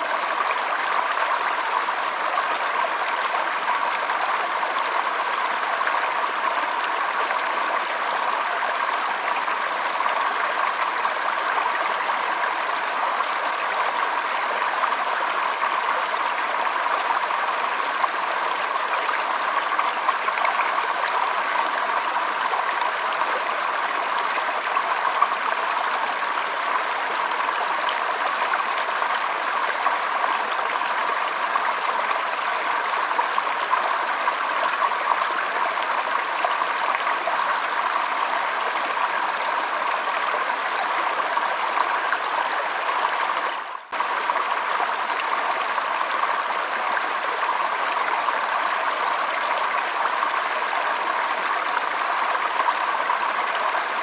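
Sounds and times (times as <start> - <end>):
stream trickling over its bed: 0.0 - 54.0.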